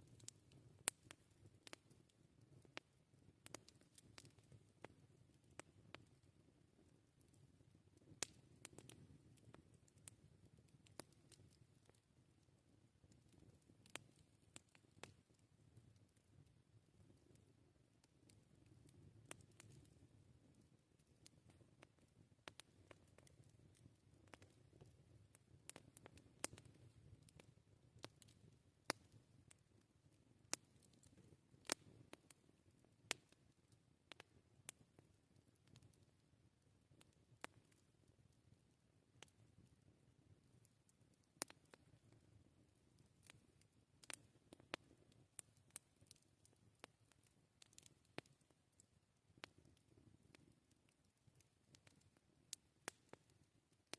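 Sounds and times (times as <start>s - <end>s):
campfire crackling and popping: 0.0s - 53.9s
faint low background: 0.0s - 53.9s.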